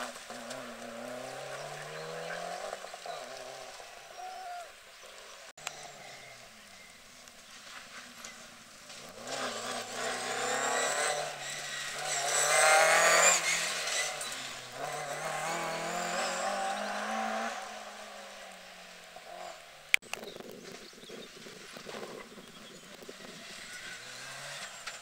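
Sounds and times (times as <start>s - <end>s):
rally car engine at full throttle: 0.0s - 25.0s.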